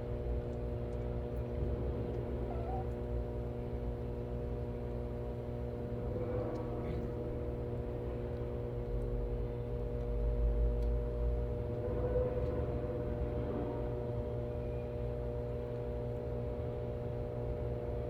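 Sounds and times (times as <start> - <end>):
mechanical hum with low rumble: 0.0 - 18.0.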